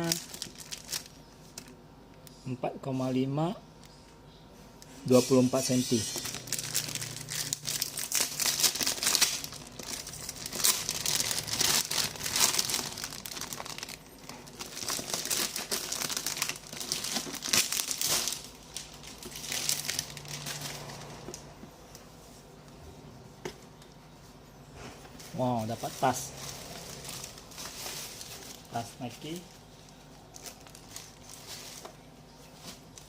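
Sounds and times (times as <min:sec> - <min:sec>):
wrapping crinkling and rustling: 0:00.0 - 0:01.8, 0:04.9 - 0:22.5, 0:25.1 - 0:33.0.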